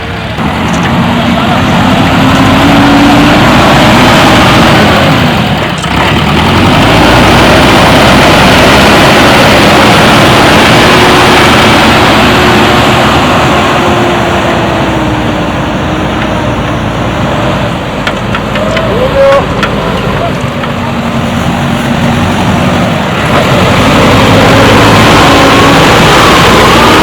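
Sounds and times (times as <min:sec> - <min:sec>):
backhoe diesel engine running: 0:00.0 - 0:27.0.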